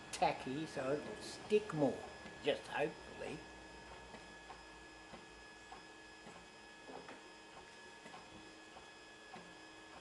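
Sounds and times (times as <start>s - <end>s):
printer motors humming and whining: 0.0s - 10.0s.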